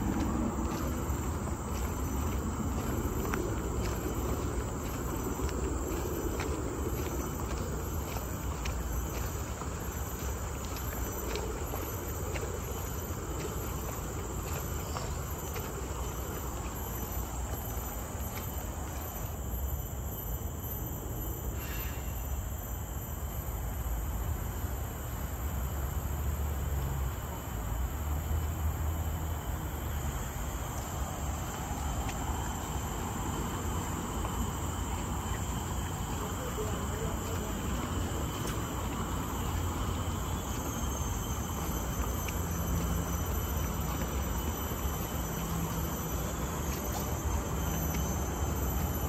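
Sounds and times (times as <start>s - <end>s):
insects chorus: 0.0s - 49.0s.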